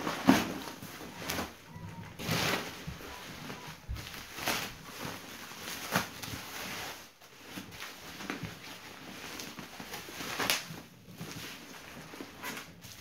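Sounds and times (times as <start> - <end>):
bubble wrap rustling and crinkling: 0.0 - 13.0.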